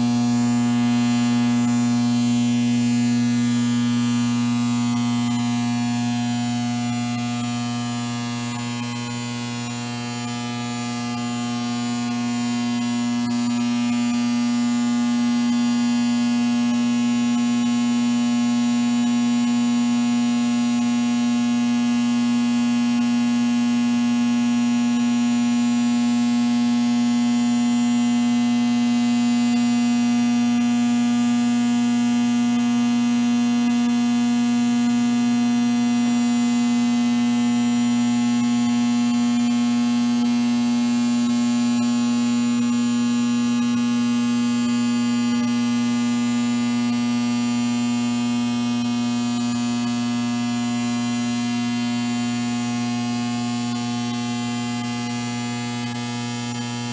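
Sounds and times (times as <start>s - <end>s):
electrical mains buzz: 0.0s - 56.9s.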